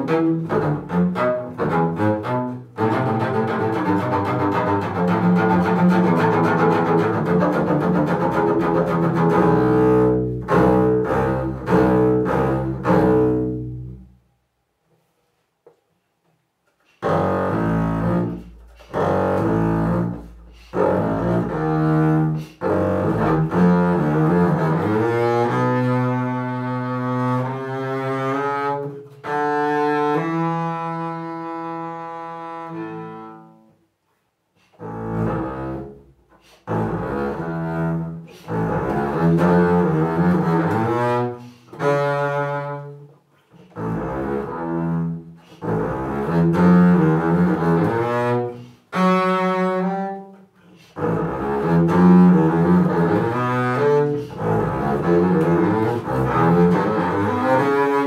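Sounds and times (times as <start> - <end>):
bowed double bass: 0.0 - 14.5, 17.0 - 33.8, 34.6 - 58.0.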